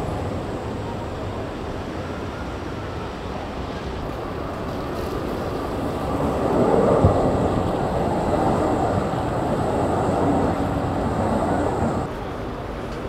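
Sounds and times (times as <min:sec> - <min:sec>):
city street traffic rumble: 0:00.0 - 0:13.0
tram approaching on rails: 0:00.0 - 0:13.0.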